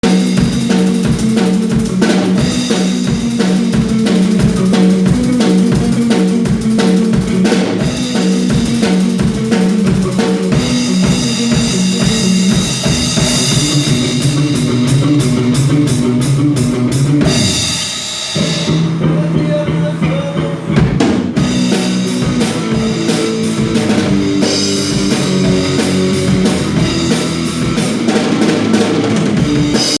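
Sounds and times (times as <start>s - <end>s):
electric guitar: 0.0s - 30.0s
rock drum beat: 0.0s - 30.0s.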